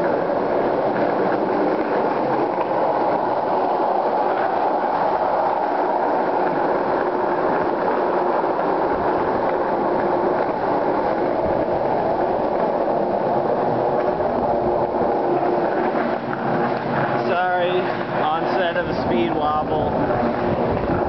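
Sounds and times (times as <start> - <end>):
faint hum: 0.0 - 21.0
skateboard wheels rolling on concrete: 0.0 - 21.0.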